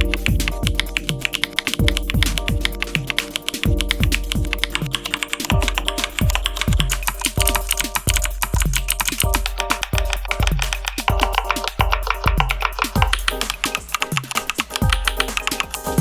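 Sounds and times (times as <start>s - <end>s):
deep kick drum: 0.0s - 1.2s, 1.8s - 13.5s, 14.8s - 15.3s
electronic music: 0.0s - 16.0s
mechanical keyboard typing: 0.0s - 16.0s.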